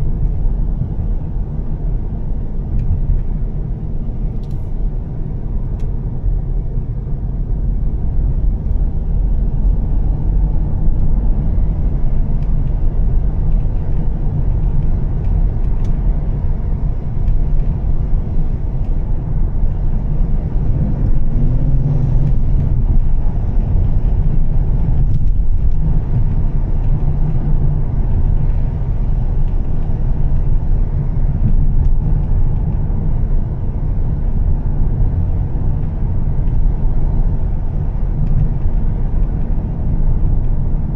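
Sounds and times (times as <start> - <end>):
car engine drone: 0.0 - 40.9
tyre and road noise: 0.0 - 40.9.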